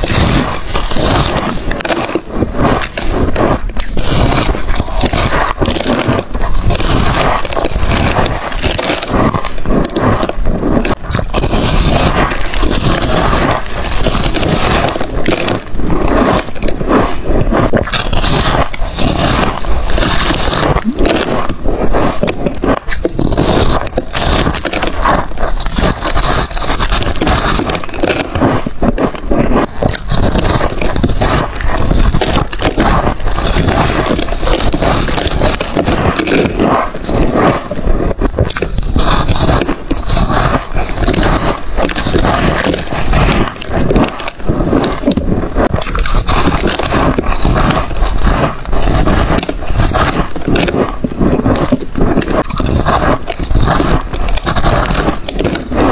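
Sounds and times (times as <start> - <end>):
crunching frost being chewed: 0.0 - 55.9.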